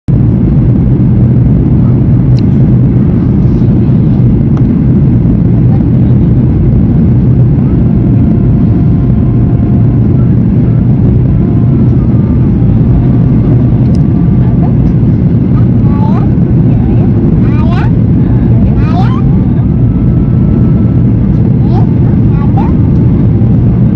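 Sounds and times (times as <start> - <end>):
jet engines roaring in cabin: 0.1 - 23.9
rushing air: 0.1 - 23.9.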